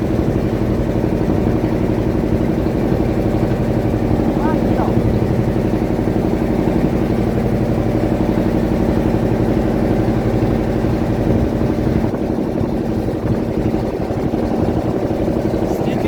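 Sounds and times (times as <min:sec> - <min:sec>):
boat engine puttering: 0:00.0 - 0:16.0.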